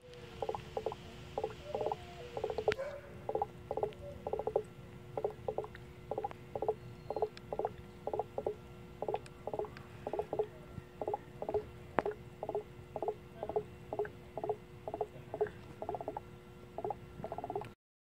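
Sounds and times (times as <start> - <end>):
faint hum: 0.0 - 17.8.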